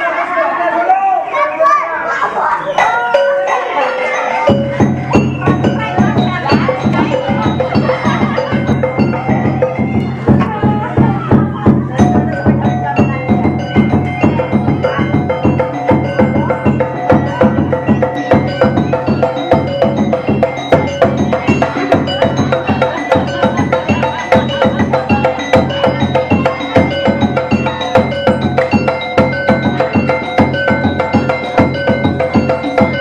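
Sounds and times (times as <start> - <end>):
steady beat: 2.7 - 33.0.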